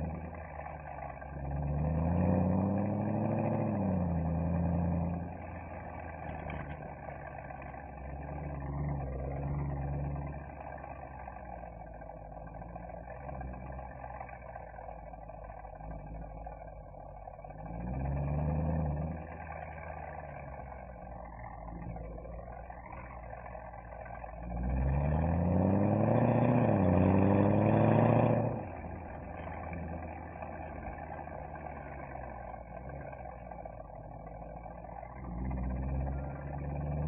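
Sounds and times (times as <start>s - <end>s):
car exhaust drone accelerating: 0.0s - 37.0s.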